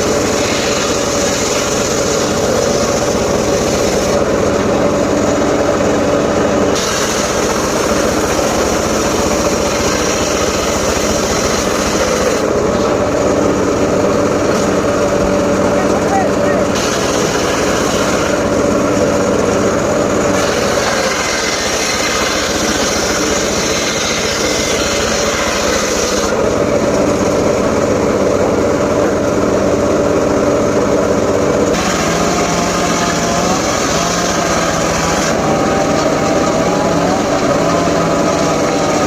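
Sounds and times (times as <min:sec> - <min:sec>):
saw engine running: 0:00.0 - 0:39.0.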